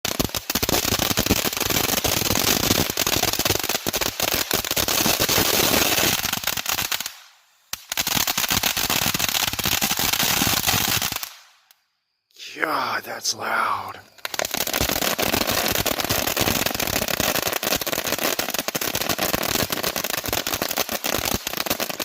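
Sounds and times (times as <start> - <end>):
fountain firework crackling: 0.0 - 11.6, 14.1 - 22.0.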